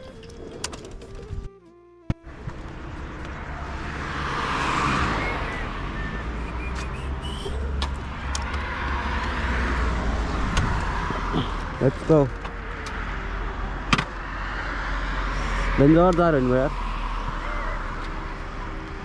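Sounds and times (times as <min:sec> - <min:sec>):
low engine rumble: 0:00.0 - 0:19.0
road noise of passing vehicles: 0:00.0 - 0:19.0.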